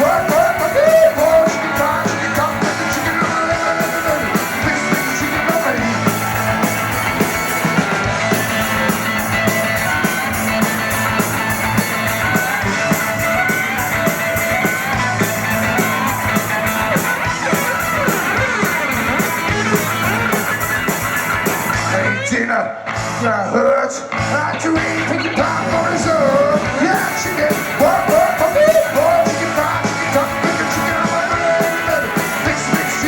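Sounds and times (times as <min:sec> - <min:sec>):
drum kit steady beat: 0:00.0 - 0:21.9, 0:24.3 - 0:33.0
electric guitar: 0:00.0 - 0:33.0.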